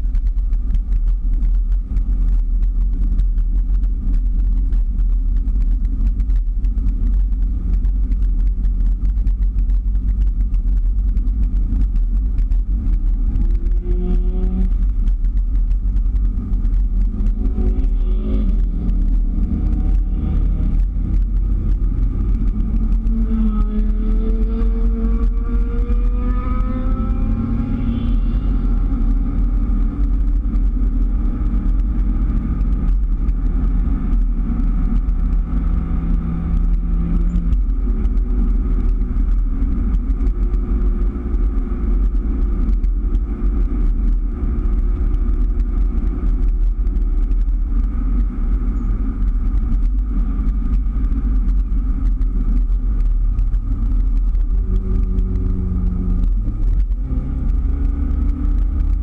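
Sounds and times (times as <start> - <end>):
car engine low rumble: 0.0 - 59.0
road noise: 0.0 - 59.0.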